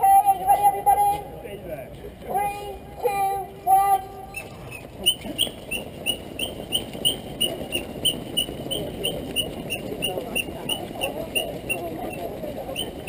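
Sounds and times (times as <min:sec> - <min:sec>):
crowd chatter: 0:00.0 - 0:13.0
crowd footsteps: 0:00.0 - 0:13.0.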